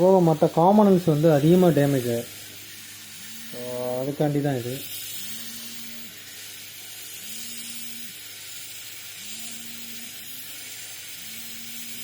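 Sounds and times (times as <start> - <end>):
hot air blower hissing: 0.0 - 12.0.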